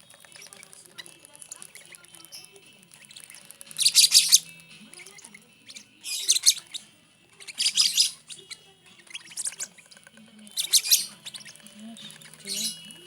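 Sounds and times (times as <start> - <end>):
chicks raspy begging calls: 0.3 - 6.8, 7.4 - 13.0.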